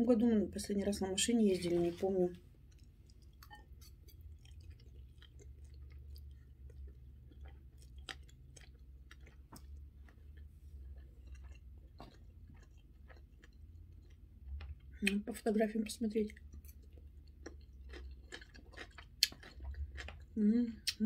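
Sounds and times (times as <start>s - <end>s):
faint low hum: 0.0s - 21.0s
person chewing wetly: 2.4s - 15.2s, 16.3s - 21.0s.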